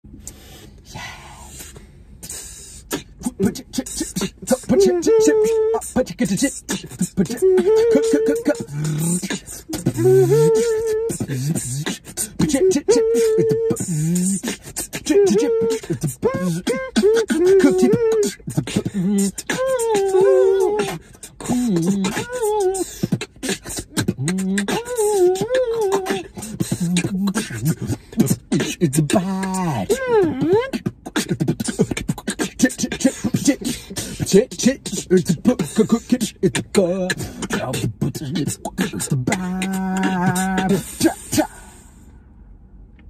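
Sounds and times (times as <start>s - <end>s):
beatboxing mouth clicks and hits: 1.5s - 41.6s
hummed vocal line: 2.8s - 41.7s.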